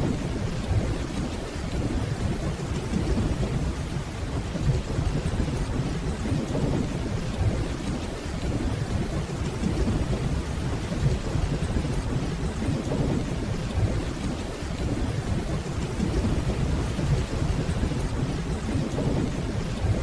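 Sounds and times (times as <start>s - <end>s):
distant thunder rumbling: 0.0s - 20.0s
steady rainfall: 0.0s - 20.0s.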